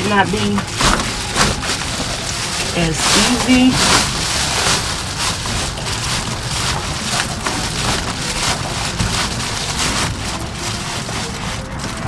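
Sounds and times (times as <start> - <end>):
foil insulation crinkling and rustling: 0.0 - 12.0.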